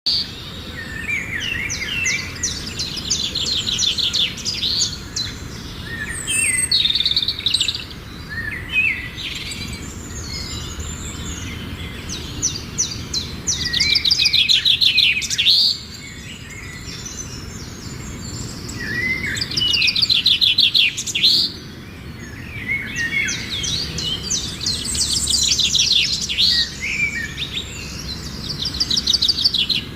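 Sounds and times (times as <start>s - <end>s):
forest birds singing: 0.0s - 29.9s
steady low background noise: 0.1s - 29.9s.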